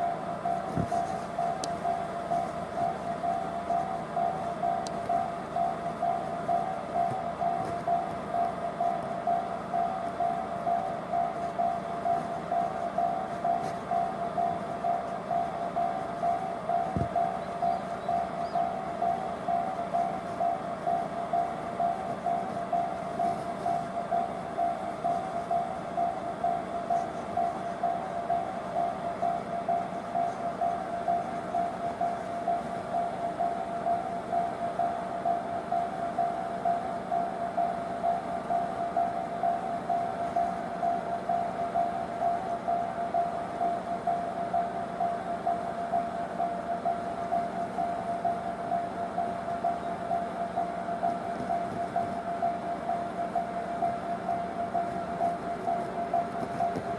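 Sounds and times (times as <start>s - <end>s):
level crossing warning bell: 0.0s - 56.9s.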